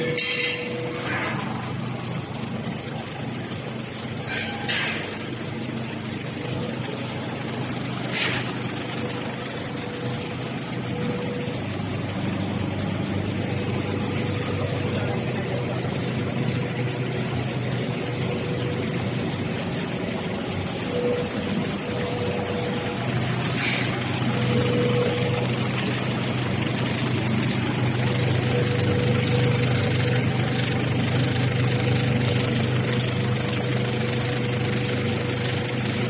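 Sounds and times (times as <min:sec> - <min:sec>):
machine humming and whirring: 0:00.0 - 0:36.0.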